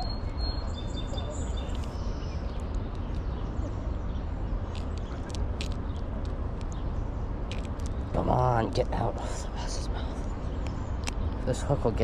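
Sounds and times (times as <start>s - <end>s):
bird chirps: 0.0s - 12.0s
low outdoor rumble: 0.0s - 12.0s.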